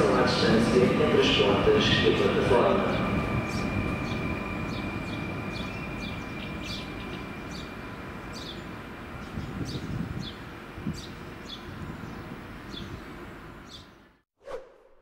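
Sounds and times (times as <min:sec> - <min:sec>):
electric train rumble: 0:00.0 - 0:13.9
high whine of train: 0:00.0 - 0:14.2.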